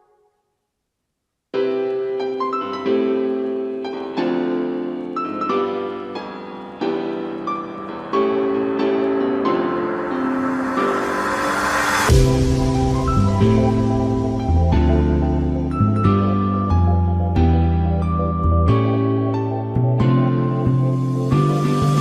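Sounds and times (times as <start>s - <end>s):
piano piece: 1.5s - 22.0s.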